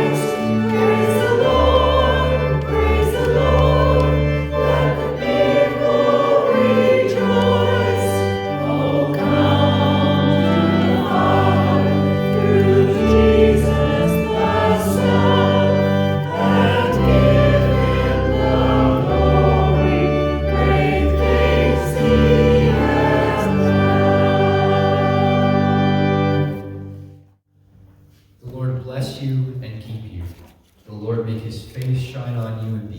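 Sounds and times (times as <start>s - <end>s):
choir singing a hymn: 0.0s - 27.1s
organ-like accompaniment: 0.0s - 27.4s.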